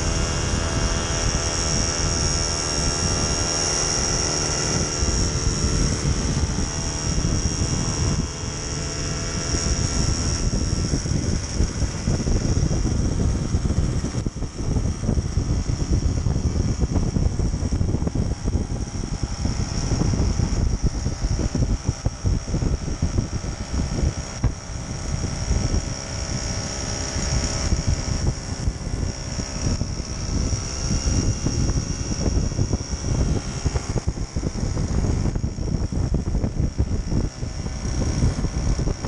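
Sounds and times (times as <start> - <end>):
moped engine running: 0.0 - 39.0
wind rumbling on microphone: 0.0 - 39.0.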